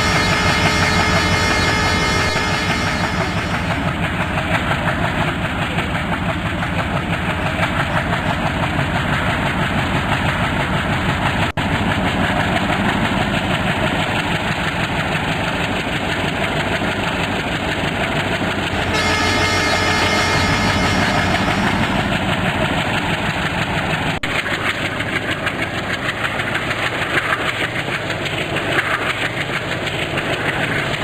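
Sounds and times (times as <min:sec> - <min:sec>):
locomotive engine running: 0:00.0 - 0:31.0.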